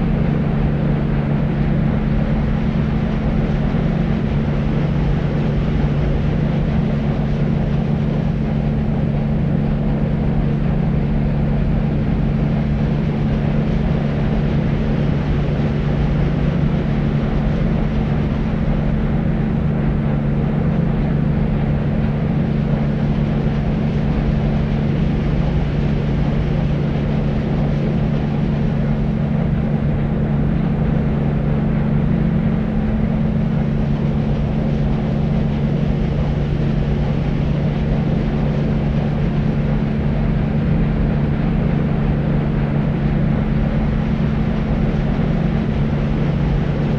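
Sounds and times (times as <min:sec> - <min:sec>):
deep white noise: 0:00.0 - 0:46.9.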